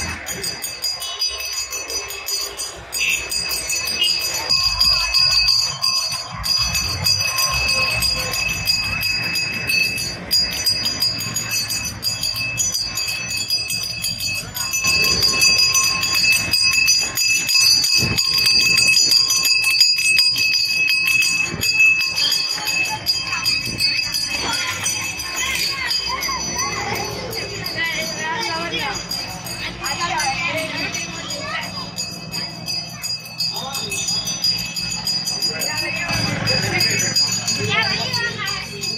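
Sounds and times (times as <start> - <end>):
bell ringing rapidly: 0.0 - 38.9.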